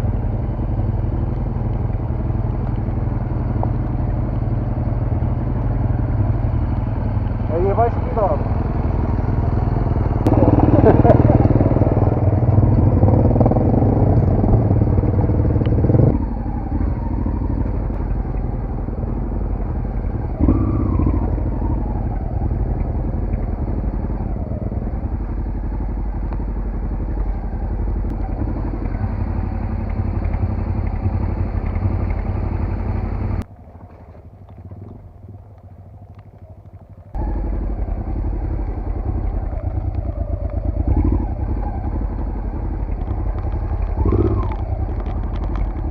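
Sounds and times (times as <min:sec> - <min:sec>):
off-road motorcycle engine: 0:00.0 - 0:45.9.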